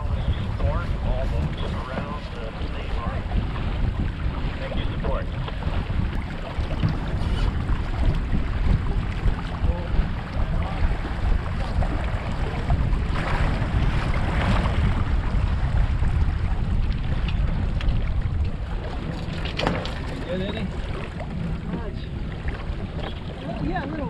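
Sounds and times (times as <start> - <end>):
water rushing along a hull: 0.0 - 24.0
wind buffeting microphone: 0.0 - 24.0.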